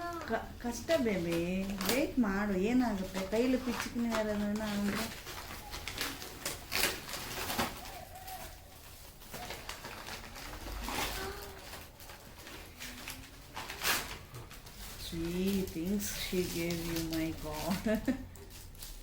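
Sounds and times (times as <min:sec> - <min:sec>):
wrapping crinkling and ripping: 0:00.0 - 0:19.0.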